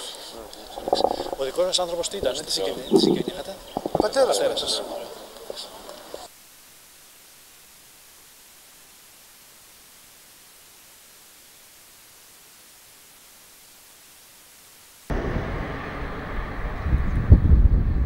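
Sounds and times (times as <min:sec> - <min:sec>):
steady background hiss: 0:00.0 - 0:15.2.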